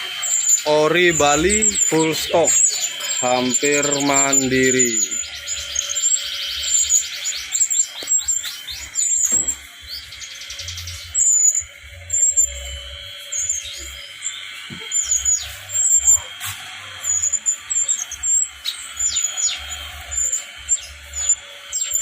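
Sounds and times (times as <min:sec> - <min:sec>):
bird calling high notes: 0:00.0 - 0:22.0
bird chirping: 0:00.0 - 0:22.0.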